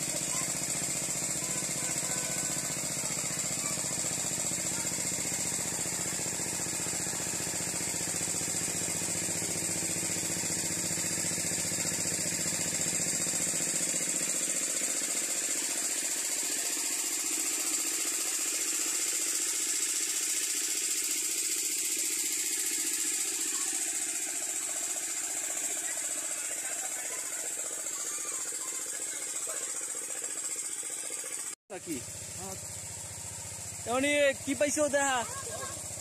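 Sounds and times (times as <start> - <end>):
pump engine knocking: 0.0 - 36.0.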